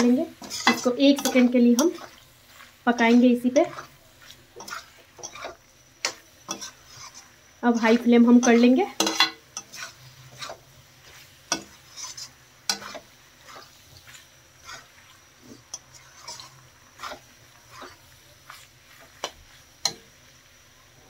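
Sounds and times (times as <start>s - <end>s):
metal spatula scraping metal pan: 0.0s - 20.0s
faint sizzle: 0.0s - 21.0s.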